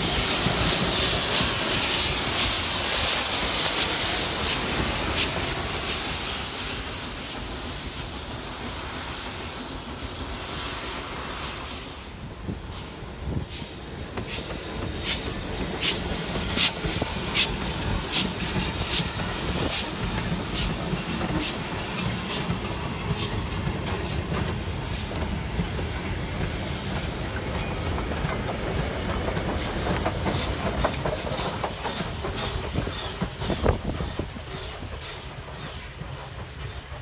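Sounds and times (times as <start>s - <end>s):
goods train rumbling past: 0.0s - 37.0s
hiss of steam: 0.0s - 37.0s.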